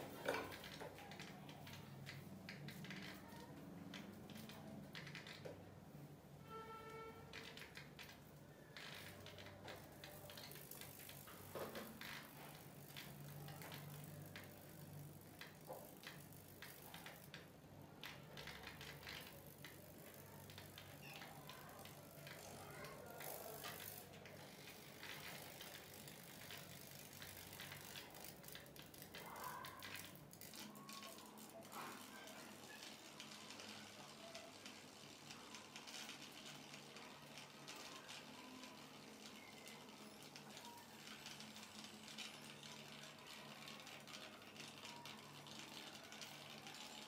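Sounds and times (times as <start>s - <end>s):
small clicks and ticks: 0.0s - 47.0s.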